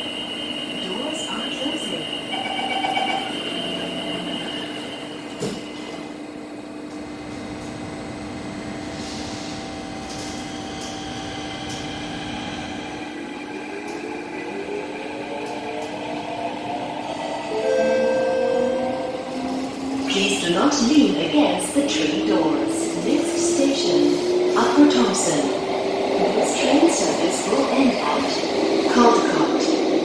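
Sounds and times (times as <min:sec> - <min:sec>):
train motors humming and whining: 0:00.0 - 0:30.0.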